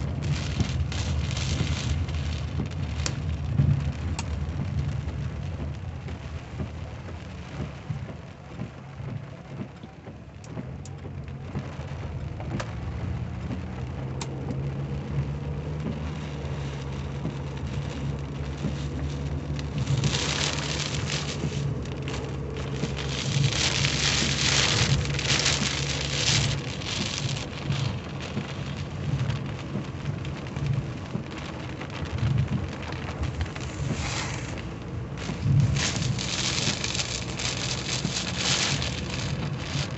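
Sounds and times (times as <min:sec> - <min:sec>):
car engine hum: 0:00.0 - 0:39.9
heavy rain on car roof: 0:00.0 - 0:39.9.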